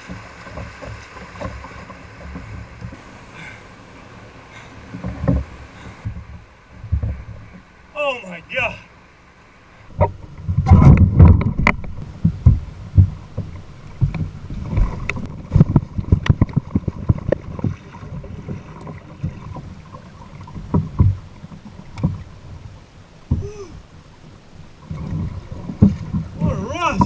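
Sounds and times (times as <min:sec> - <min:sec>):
kayaks knocking and thumping: 0:00.0 - 0:09.1, 0:09.7 - 0:27.0
churning splashing water: 0:00.0 - 0:27.0.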